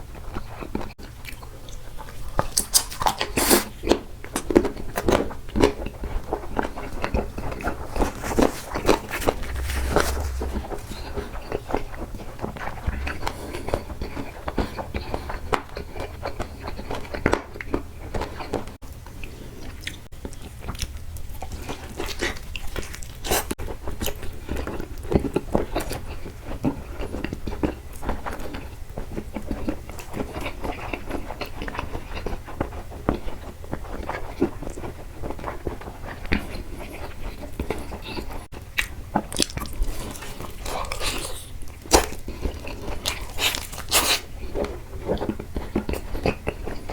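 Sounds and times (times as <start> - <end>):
chewing and biting food: 0.2 - 11.3, 12.8 - 46.9.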